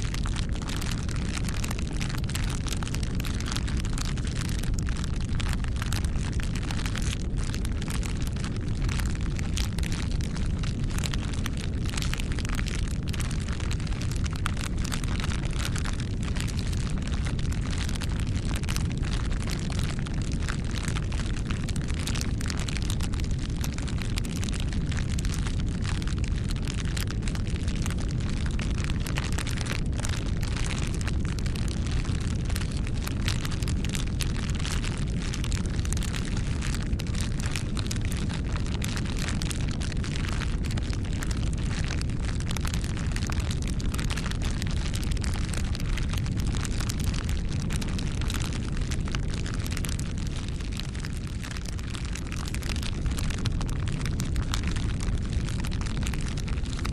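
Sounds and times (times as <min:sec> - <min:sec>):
low rumble of flames: 0:00.0 - 0:56.9
wood crackling and popping: 0:00.0 - 0:56.9.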